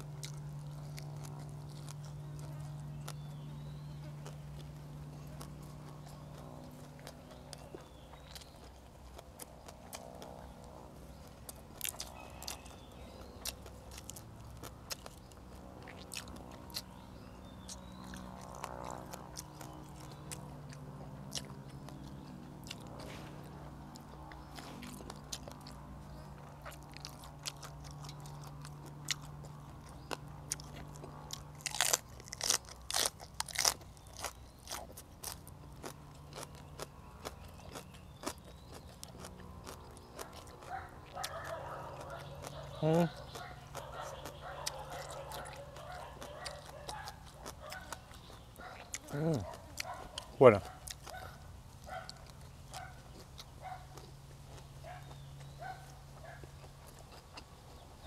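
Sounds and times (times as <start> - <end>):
person chewing and crunching: 0.0 - 58.0.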